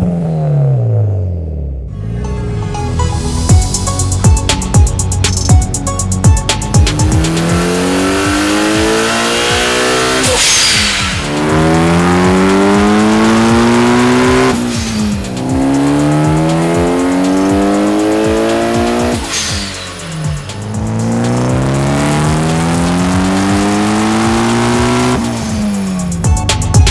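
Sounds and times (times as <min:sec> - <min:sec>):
car engine accelerating hard: 0:00.0 - 0:26.9.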